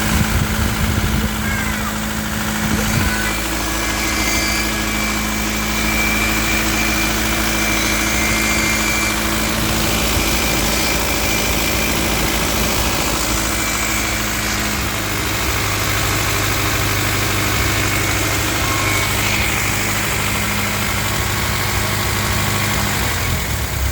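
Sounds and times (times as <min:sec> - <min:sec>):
abnormal engine knocking noise: 0:00.0 - 0:23.9
car engine running: 0:00.0 - 0:23.9.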